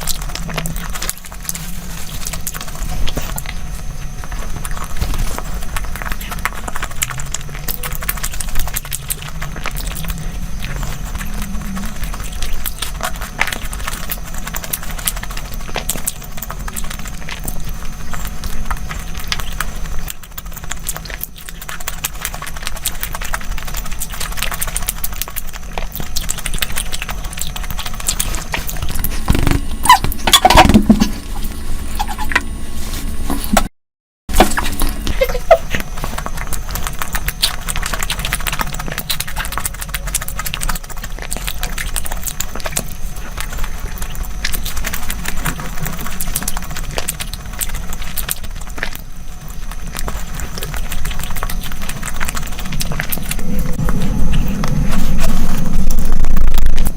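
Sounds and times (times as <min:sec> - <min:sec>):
close chewing and eating: 0:00.0 - 0:33.7, 0:34.3 - 0:56.9.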